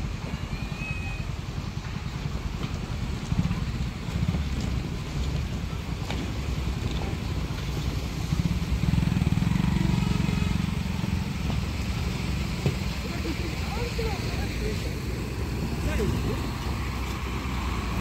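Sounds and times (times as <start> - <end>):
heavy machine engine rumbling: 0.0 - 18.0.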